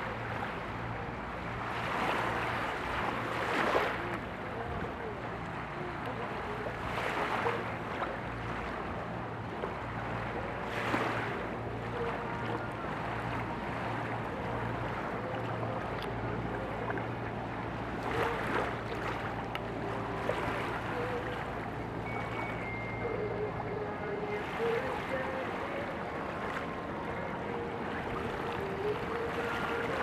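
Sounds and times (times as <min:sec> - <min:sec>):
ship engines humming: 0:00.0 - 0:30.0.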